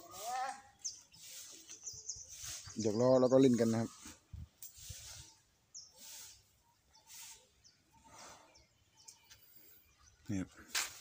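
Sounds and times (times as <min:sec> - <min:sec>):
faint bird chirp: 0:00.0 - 0:10.7.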